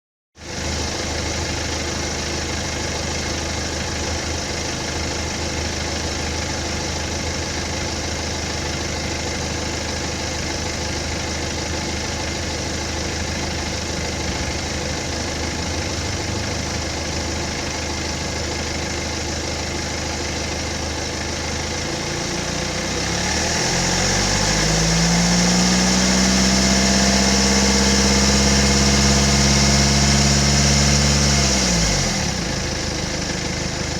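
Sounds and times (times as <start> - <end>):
diesel engine idling and revving: 0.4 - 33.9.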